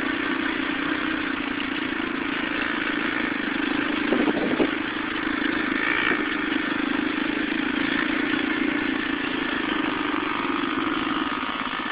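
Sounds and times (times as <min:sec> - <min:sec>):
dirt bike engine running: 0:00.0 - 0:11.9.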